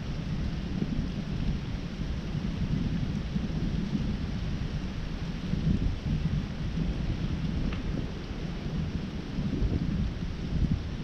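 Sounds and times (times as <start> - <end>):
low fluctuating rumble: 0.0 - 11.0.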